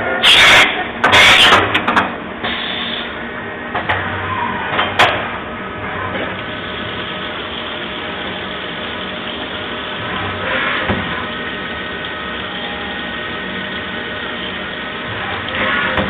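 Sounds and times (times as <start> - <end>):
machining centre humming: 0.0 - 16.0.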